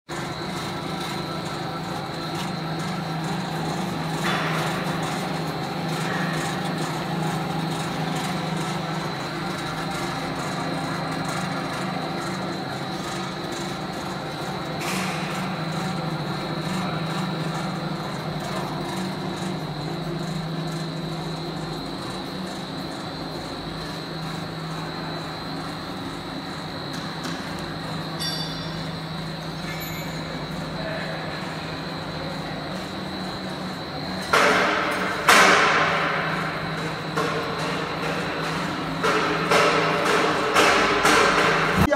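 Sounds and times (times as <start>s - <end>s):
machine motor hum: 0.1s - 41.9s.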